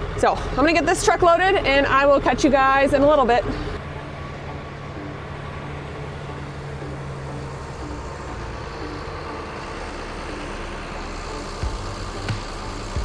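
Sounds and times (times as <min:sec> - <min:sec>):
heavy truck engine running: 0:00.0 - 0:13.0.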